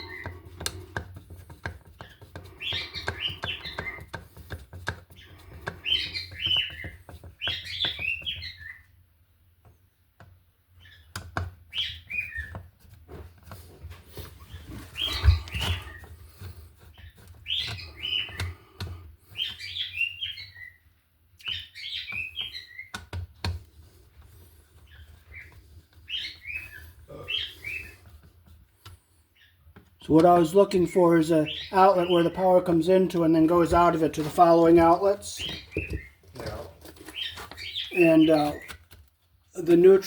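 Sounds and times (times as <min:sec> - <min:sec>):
small bird chirping: 0:00.0 - 0:09.0, 0:10.7 - 0:12.7, 0:14.4 - 0:23.1, 0:24.3 - 0:33.4, 0:34.1 - 0:38.9.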